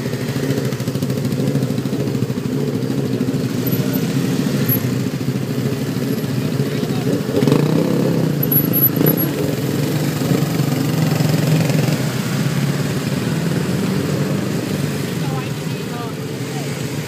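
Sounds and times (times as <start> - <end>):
motorcycle engines at low revs: 0.0 - 17.0.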